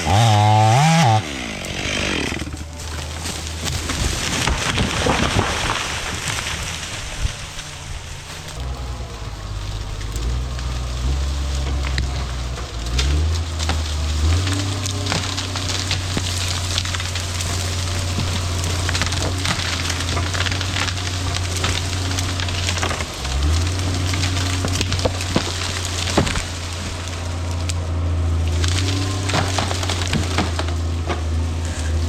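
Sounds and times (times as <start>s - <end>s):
wood cracking and splintering: 0.0s - 32.0s
steady low drone: 6.2s - 32.0s.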